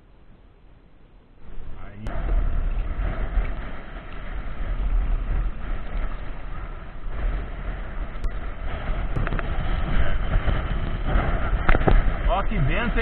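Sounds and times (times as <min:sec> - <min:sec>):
wind buffeting microphone: 0:01.4 - 0:13.0.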